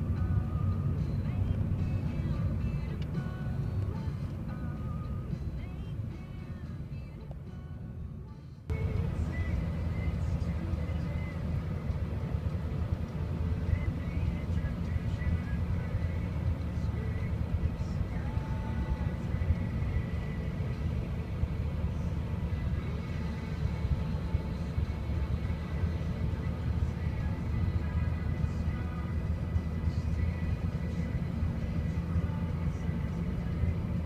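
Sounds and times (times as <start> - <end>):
car driving rumble: 0.0 - 34.0.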